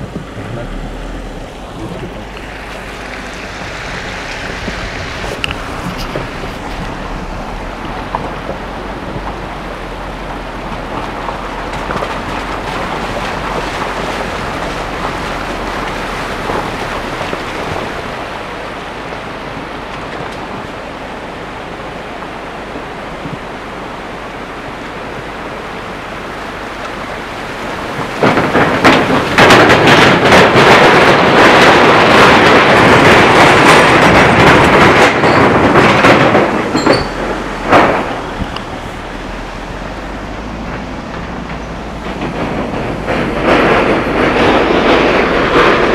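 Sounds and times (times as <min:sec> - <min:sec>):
rattling rumble with clatters: 0:00.0 - 0:45.9
tyre and road noise: 0:00.0 - 0:45.9.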